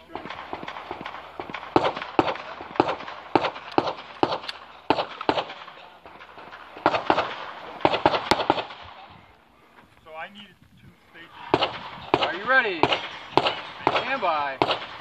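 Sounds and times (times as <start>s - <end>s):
pistol shots: 0.0s - 9.1s, 11.4s - 15.0s.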